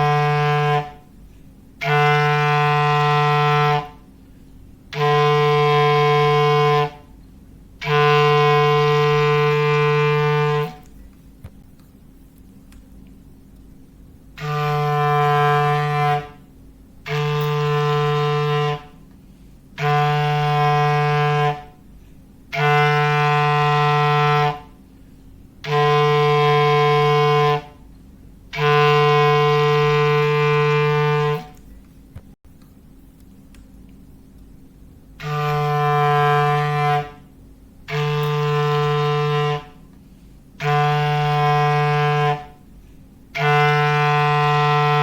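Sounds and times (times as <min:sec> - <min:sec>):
foghorn blasts: 0:00.0 - 0:04.2, 0:04.8 - 0:07.2, 0:07.8 - 0:11.0, 0:14.3 - 0:25.0, 0:25.6 - 0:31.7, 0:35.2 - 0:45.0.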